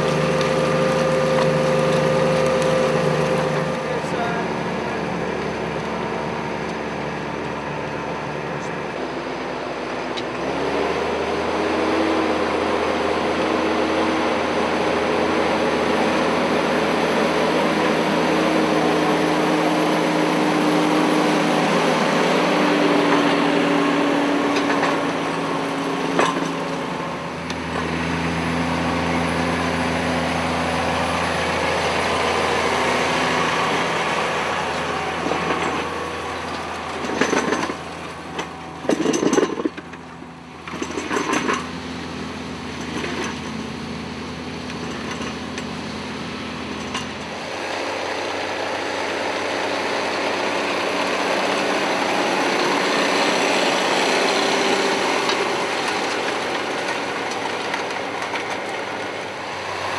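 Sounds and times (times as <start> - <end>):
cultivator working soil: 0.0 - 59.9
tractor engine under load: 0.0 - 59.9.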